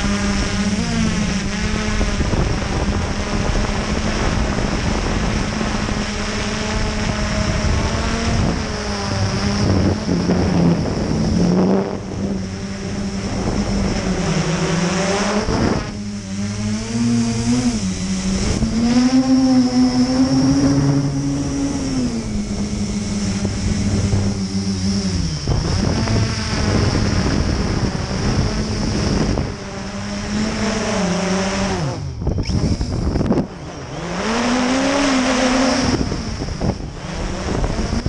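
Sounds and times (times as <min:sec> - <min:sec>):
quadcopter propellers buzzing: 0:00.0 - 0:38.0
steady high whine: 0:00.0 - 0:38.0.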